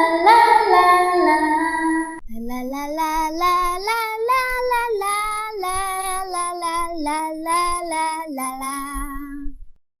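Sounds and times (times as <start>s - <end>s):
girl singing: 0.0s - 9.6s.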